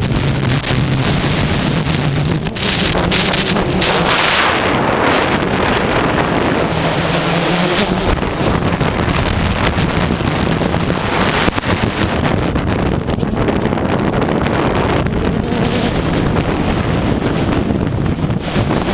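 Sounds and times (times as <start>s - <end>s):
drone motors humming: 0.0s - 18.9s
gusty wind buffeting microphone: 0.0s - 18.9s.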